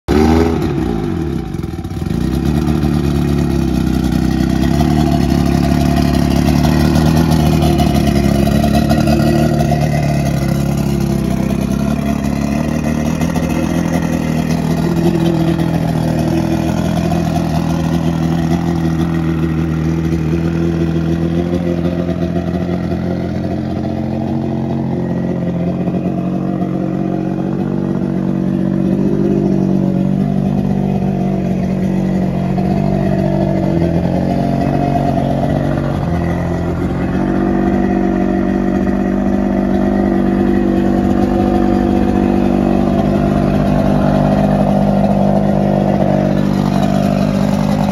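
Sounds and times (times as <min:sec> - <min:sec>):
outboard motor idling: 0:00.1 - 0:47.9.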